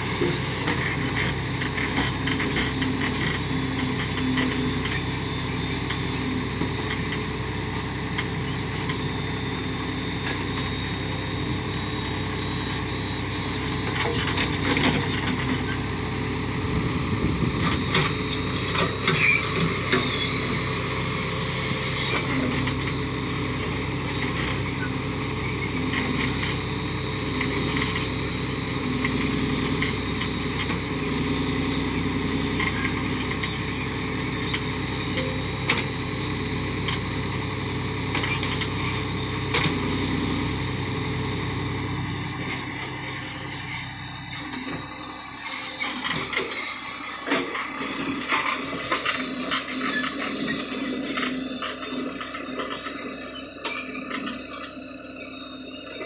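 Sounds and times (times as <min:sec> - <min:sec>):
high-pitched drone: 0:00.0 - 0:56.0
tractor diesel engine under load: 0:00.0 - 0:56.0.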